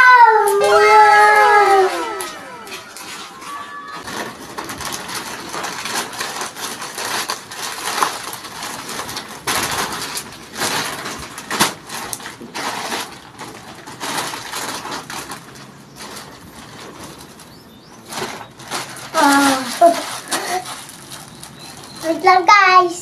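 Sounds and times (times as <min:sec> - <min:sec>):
plastic bag rustling: 0:01.8 - 0:23.0.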